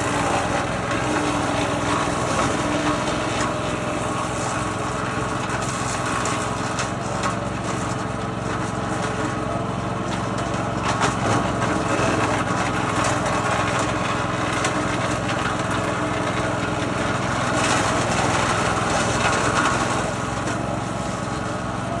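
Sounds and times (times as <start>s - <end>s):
wood chipper engine running: 0.0s - 22.0s
wood cracking in chipper: 0.0s - 22.0s.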